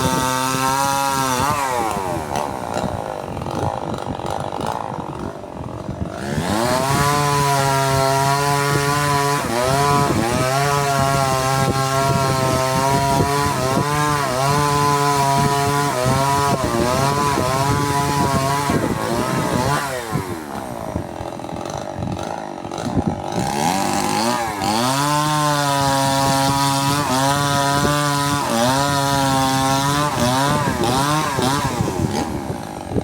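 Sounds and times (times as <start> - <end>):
chainsaw revving and idling: 0.0 - 33.0.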